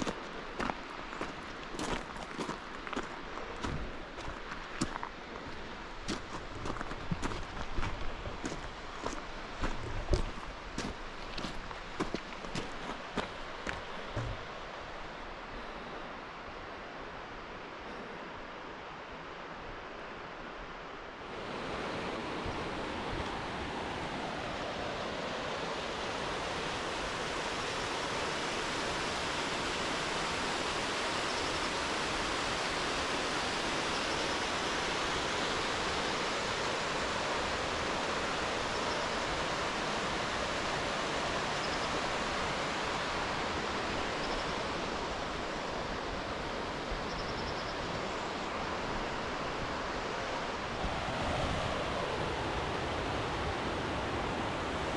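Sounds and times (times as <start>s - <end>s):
fast-flowing water roaring: 0.0s - 17.0s, 21.2s - 47.1s, 47.8s - 54.9s.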